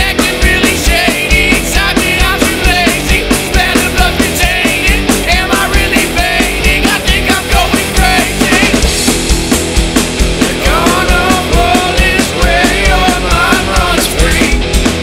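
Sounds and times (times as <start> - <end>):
person singing: 0.0 - 8.9, 10.4 - 14.7
drum beat: 0.0 - 15.0
punk rock band: 0.0 - 15.0.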